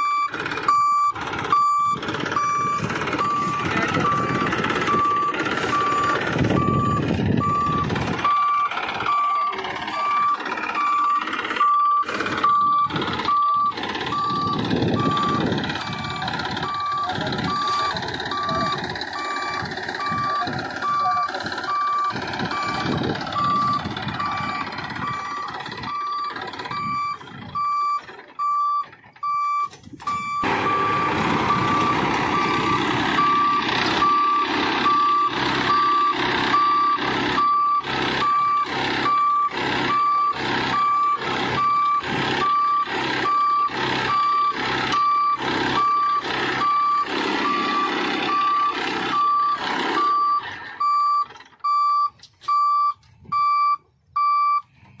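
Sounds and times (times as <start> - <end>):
reversing alarm beeping: 0.0 - 54.7
tractor engine running: 0.0 - 55.0.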